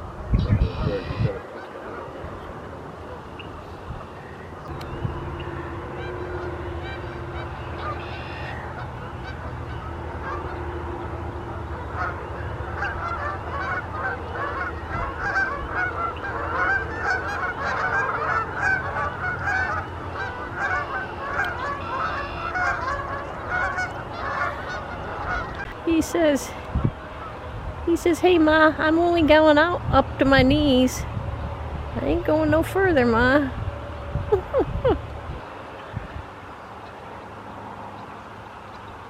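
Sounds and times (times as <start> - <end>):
cranes calling: 0.0 - 39.0.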